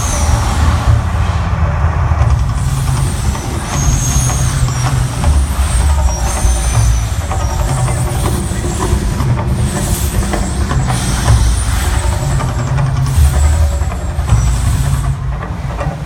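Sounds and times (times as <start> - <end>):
deep rumble: 0.0 - 16.0
steady hiss: 0.0 - 16.0.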